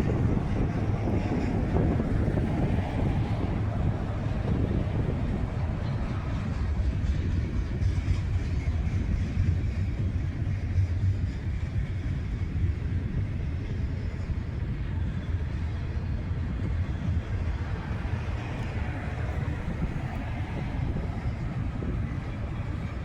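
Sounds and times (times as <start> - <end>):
train rolling past: 0.0 - 23.0.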